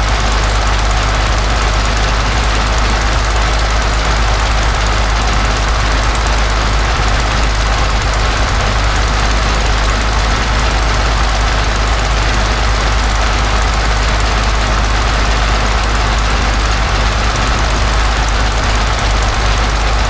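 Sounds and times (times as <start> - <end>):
aero engine running steadily: 0.0 - 20.0.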